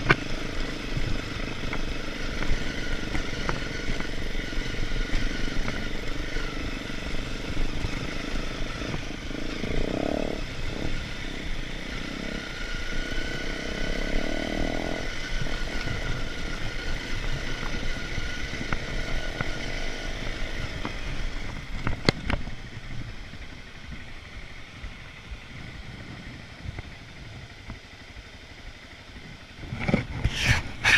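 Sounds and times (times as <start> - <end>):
motorcycle engine running: 0.0 - 30.9
road and wind rumble: 0.0 - 30.9.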